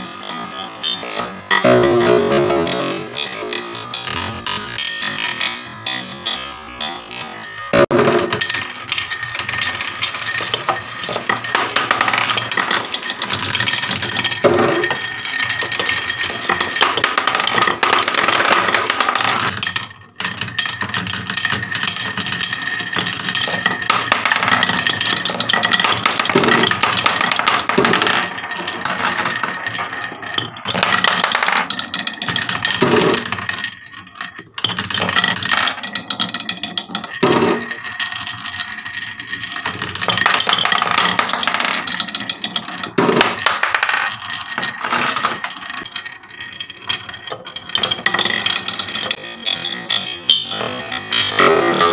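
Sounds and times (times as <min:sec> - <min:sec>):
marbles rattling on wooden tracks: 0:00.0 - 0:51.9.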